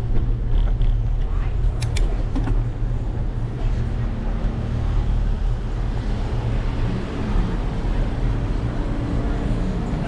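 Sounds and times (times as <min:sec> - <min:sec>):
street noise hiss: 0:00.0 - 0:10.0.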